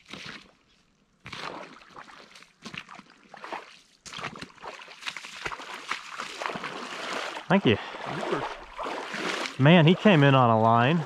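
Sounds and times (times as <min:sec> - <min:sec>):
waders splashing through water: 0:01.2 - 0:11.0.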